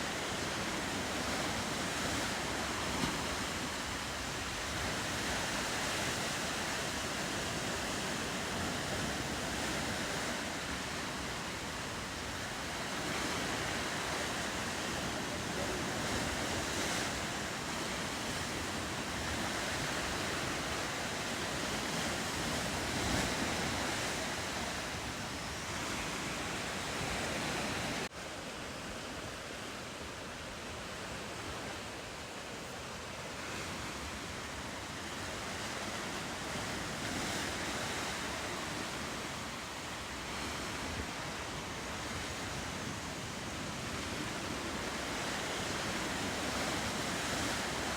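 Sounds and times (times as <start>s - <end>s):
wind on microphone: 0.0s - 28.1s, 30.9s - 47.9s
ocean surf washing: 0.0s - 47.9s.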